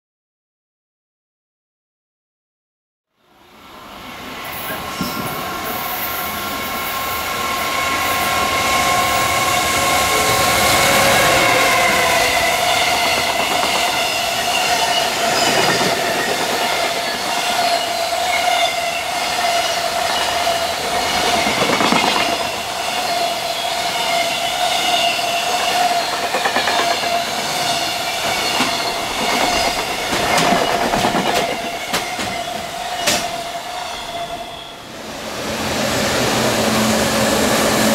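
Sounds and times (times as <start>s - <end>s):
train wheels whining on rails: 3.3s - 37.9s.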